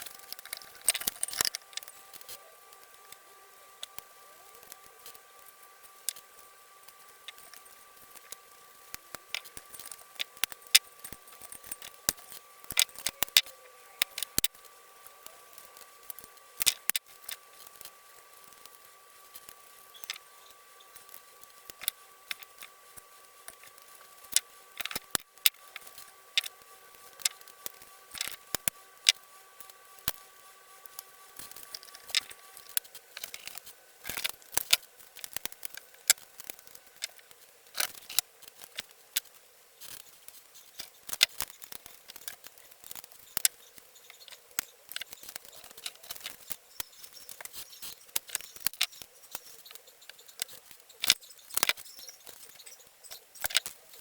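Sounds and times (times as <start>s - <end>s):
faint high hum: 0.0s - 54.0s.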